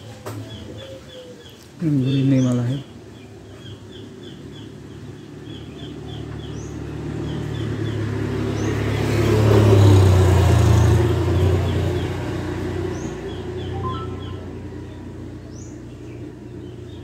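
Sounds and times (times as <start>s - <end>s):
small bird chirping: 0.4s - 8.8s, 11.4s - 17.0s
vehicle engine hum passing: 2.8s - 17.0s.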